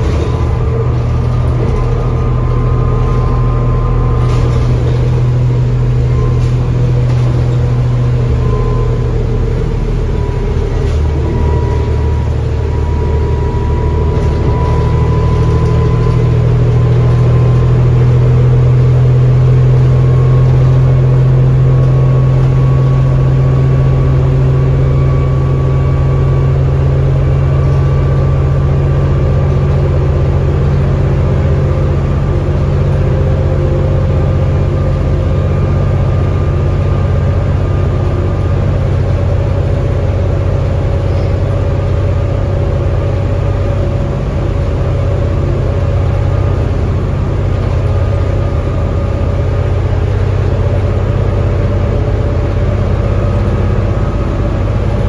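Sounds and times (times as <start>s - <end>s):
bus diesel engine drone: 0.0s - 55.0s
thin rising whine: 0.0s - 55.0s.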